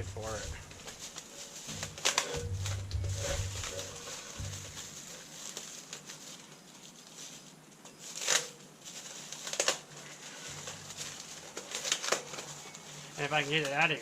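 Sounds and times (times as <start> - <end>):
packing material crinkling: 0.0 - 14.0.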